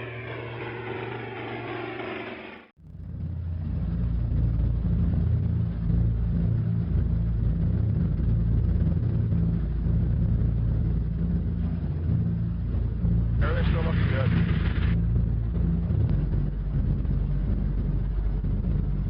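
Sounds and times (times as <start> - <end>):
radial piston engines rumbling: 0.0 - 19.0.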